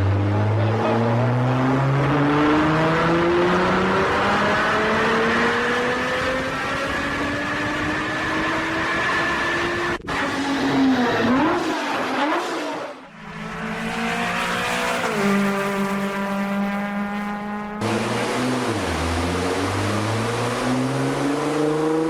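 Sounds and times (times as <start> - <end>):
sports car engine revving: 0.0 - 22.0.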